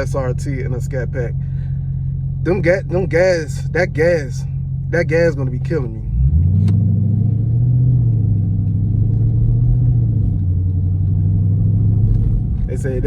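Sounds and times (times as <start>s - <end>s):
car engine droning at cruising speed: 0.0s - 13.0s.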